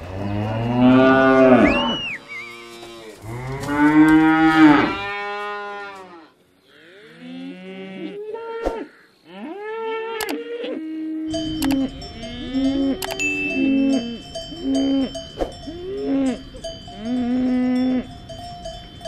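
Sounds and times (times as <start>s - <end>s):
cattle mooing: 0.2s - 8.6s, 9.3s - 18.1s.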